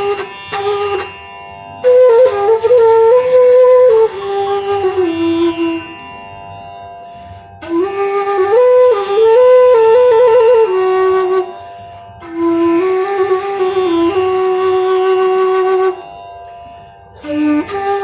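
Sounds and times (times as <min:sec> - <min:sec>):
bamboo flute melody: 0:00.0 - 0:18.0
tampura drone: 0:00.0 - 0:18.0.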